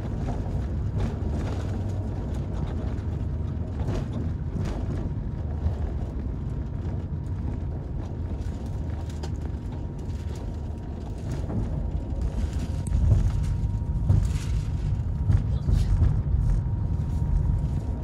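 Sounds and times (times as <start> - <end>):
low rumble of engines and airflow: 0.0 - 18.0.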